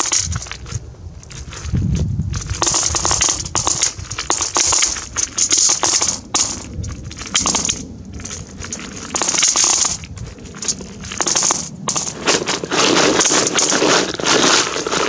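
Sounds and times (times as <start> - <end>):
coins clinking into metal bucket: 0.0 - 0.6, 2.4 - 14.8.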